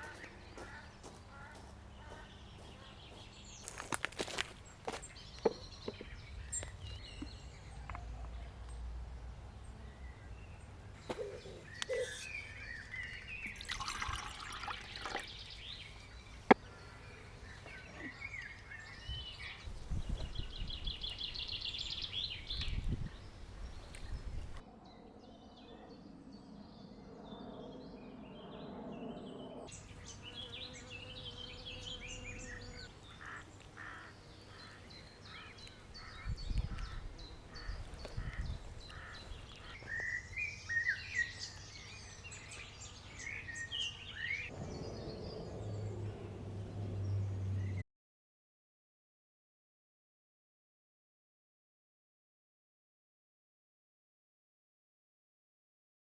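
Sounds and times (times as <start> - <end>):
wild birds singing: 0.0 - 47.8.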